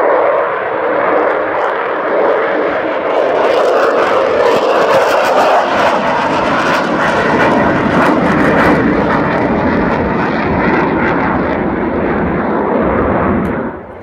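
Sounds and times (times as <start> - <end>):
jet aircraft roar: 0.0 - 14.0.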